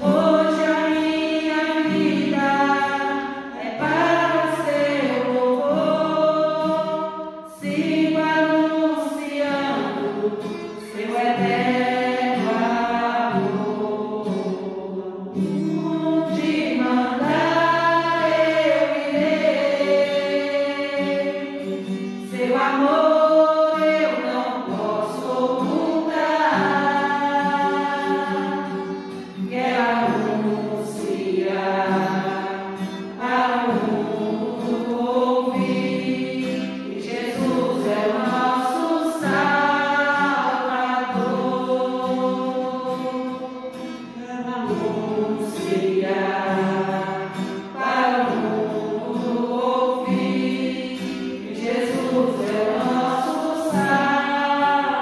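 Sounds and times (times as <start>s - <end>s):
women singing a hymn: 0.0s - 55.0s.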